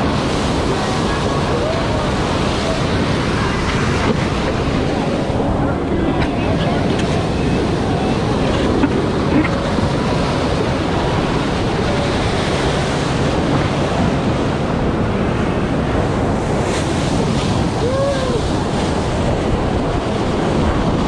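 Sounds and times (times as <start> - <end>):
water rushing and churning: 0.0 - 21.0
wind buffeting microphone: 0.0 - 21.0.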